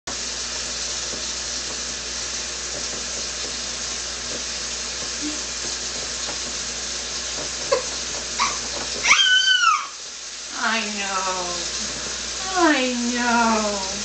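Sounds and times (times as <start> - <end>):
water running from a faucet: 0.1 - 14.0.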